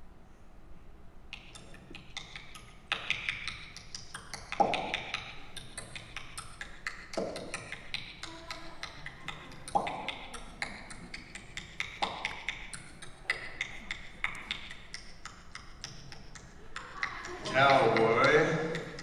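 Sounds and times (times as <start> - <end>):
quick uneven ticking: 1.3 - 19.0.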